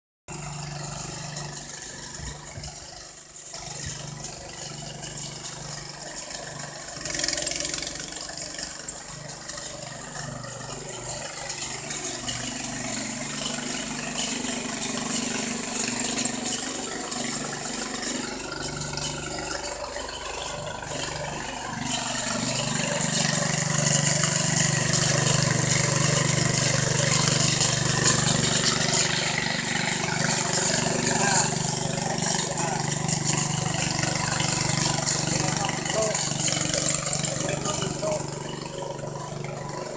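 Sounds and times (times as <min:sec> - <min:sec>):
drilling machine engine running: 0:00.3 - 0:39.9.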